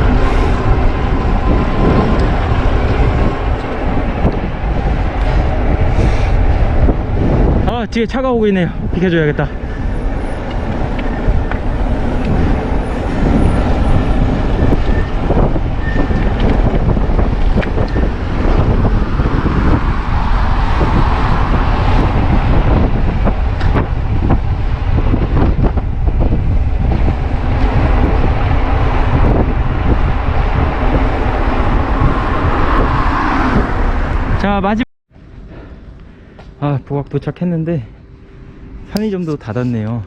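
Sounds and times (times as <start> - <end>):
wind rushing over microphone: 0.0 - 36.6
road noise: 0.0 - 40.0.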